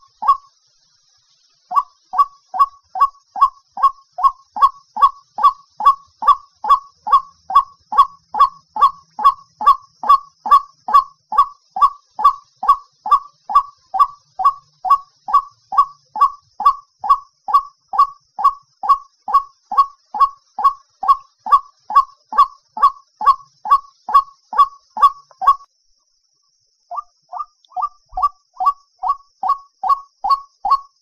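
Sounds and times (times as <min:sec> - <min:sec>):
waterhen calling: 0:00.0 - 0:00.5, 0:01.7 - 0:25.7, 0:26.9 - 0:30.9.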